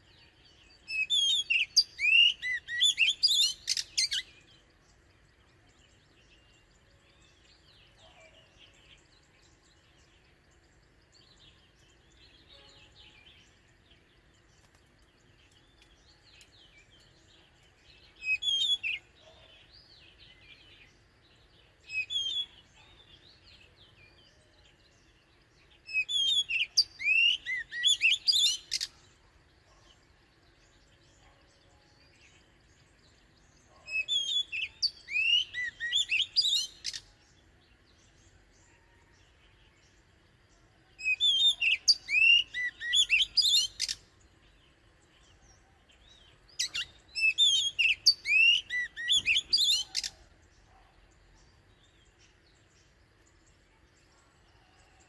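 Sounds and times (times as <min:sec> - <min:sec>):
magpie-robin whistled song: 0:00.0 - 0:13.7, 0:15.3 - 0:32.5, 0:33.1 - 0:39.9, 0:40.9 - 0:53.6
faint distant birdsong: 0:00.0 - 0:55.0.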